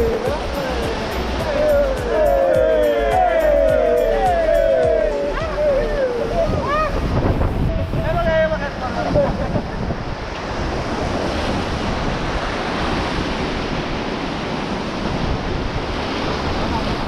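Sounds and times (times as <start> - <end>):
river water rushing: 0.0 - 17.0
wind buffeting microphone: 0.0 - 17.0.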